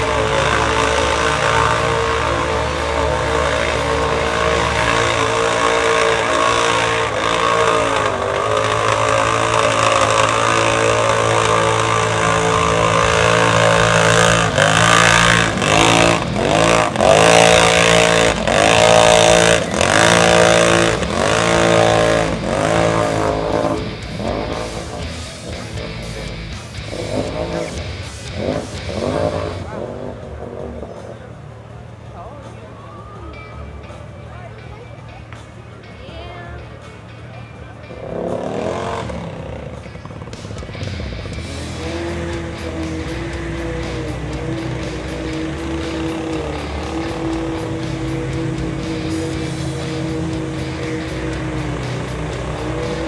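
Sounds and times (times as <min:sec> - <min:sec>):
atv engine revving: 0:00.0 - 0:36.0, 0:36.6 - 0:53.0.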